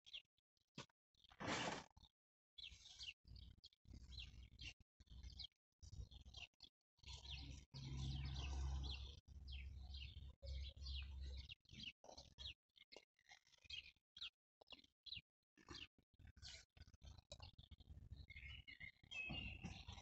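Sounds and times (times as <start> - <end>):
small birds chirping: 0.0 - 0.3, 1.2 - 20.0.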